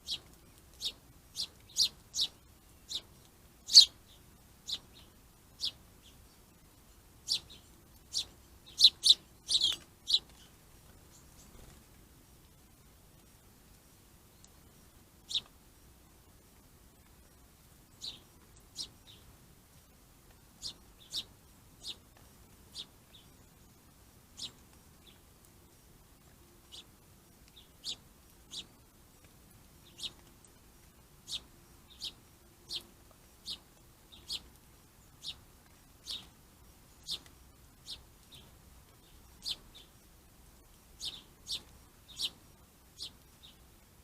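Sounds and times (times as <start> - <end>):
small bird chirping: 0.0 - 11.8, 14.3 - 15.5, 17.0 - 19.3, 20.6 - 25.9, 26.6 - 43.8.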